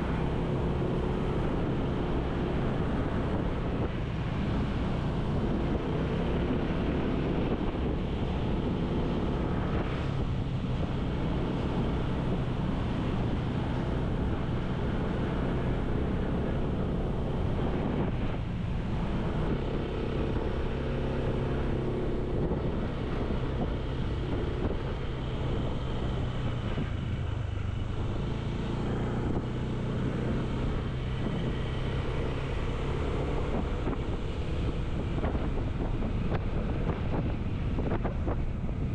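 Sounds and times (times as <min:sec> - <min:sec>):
road noise: 0:00.0 - 0:38.9
vehicle engine running: 0:00.0 - 0:38.9
wind on microphone: 0:00.0 - 0:38.9.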